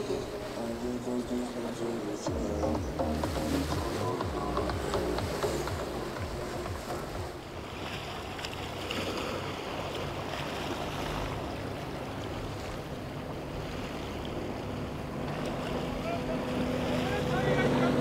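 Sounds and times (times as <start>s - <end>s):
motorboat engine drone: 0.0s - 18.0s
spray and waves slapping: 0.0s - 18.0s.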